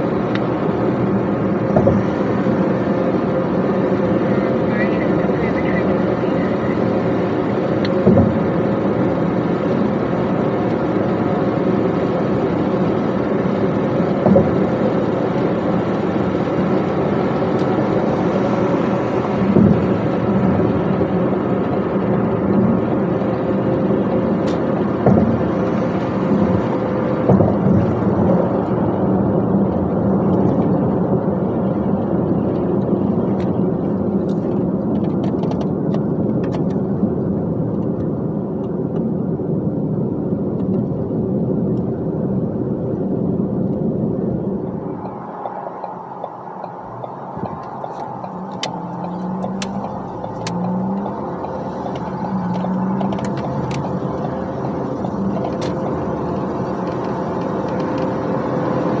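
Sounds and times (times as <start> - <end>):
dump truck engine: 0.0 - 38.4, 40.3 - 59.0
road noise: 0.0 - 59.0.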